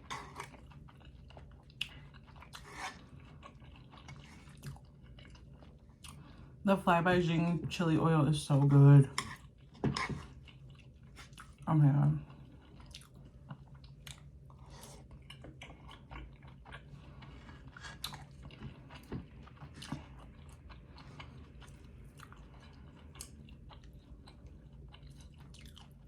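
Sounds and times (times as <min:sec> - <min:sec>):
person chewing noodles: 0:00.0 - 0:06.6, 0:09.3 - 0:26.0.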